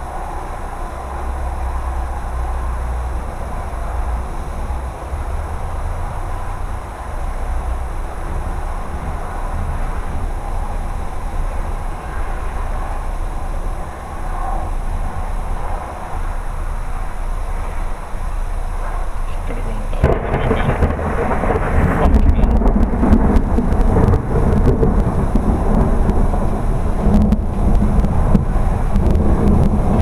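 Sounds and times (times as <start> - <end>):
loud thunder rumble: 0.0 - 30.0
low wind noise on microphone: 0.0 - 30.0.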